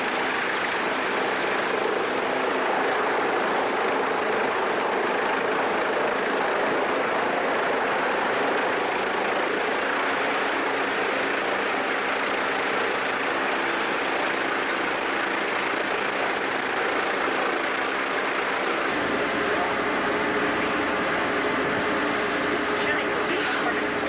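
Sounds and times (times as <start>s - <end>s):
machinery drone: 0.0s - 24.0s.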